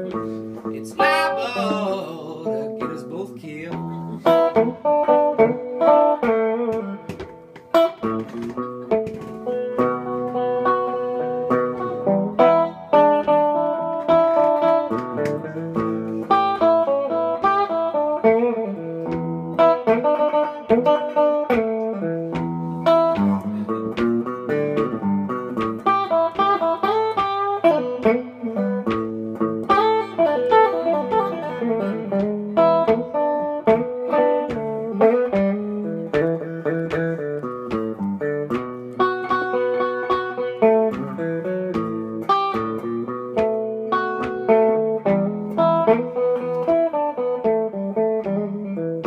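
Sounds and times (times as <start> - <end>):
electric guitar blues: 0.0 - 49.0.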